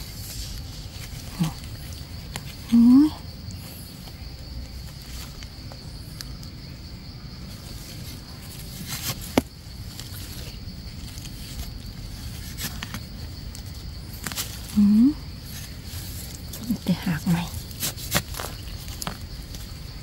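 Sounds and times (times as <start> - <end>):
soil and leaf litter scraping: 0.0 - 6.6, 7.3 - 20.0
high insect drone: 0.0 - 20.0.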